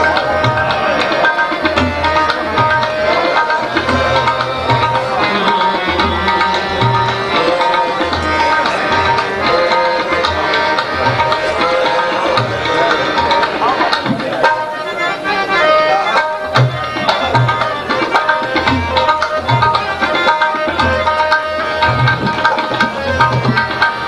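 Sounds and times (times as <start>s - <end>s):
harmonium reed notes: 0.0s - 24.0s
tabla rhythm: 0.0s - 24.0s.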